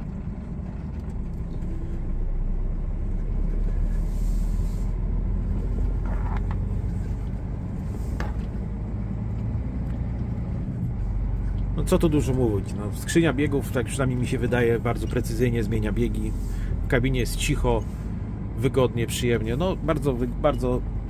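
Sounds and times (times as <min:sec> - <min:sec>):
truck diesel engine rumble: 0:00.0 - 0:21.0.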